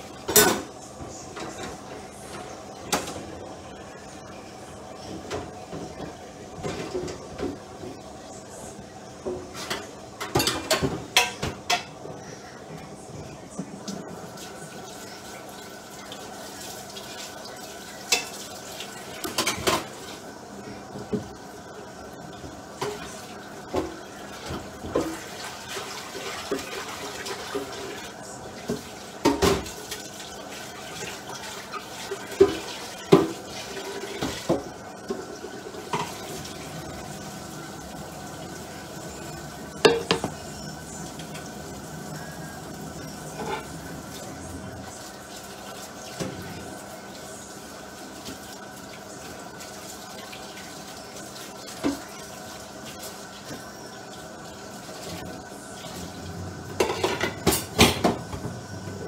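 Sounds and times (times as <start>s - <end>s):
tap running water: 0.0s - 12.9s, 13.5s - 59.0s.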